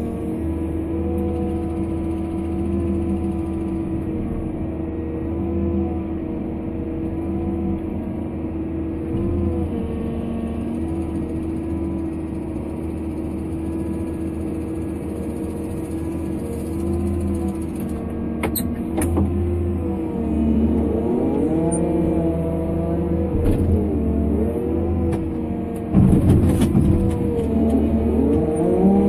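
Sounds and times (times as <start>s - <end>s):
excavator engine and hydraulics: 0.0s - 29.0s.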